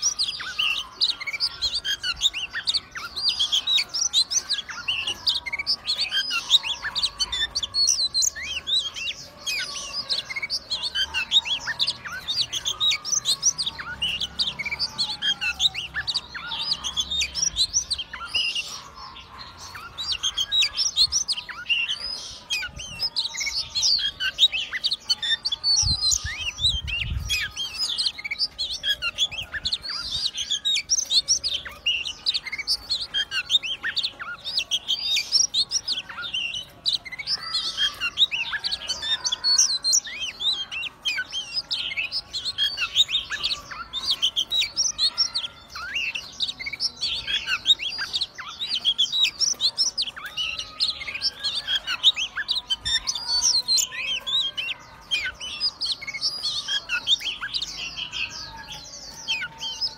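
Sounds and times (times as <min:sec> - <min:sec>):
bird singing chirps and whistles: 0:00.0 - 0:59.9.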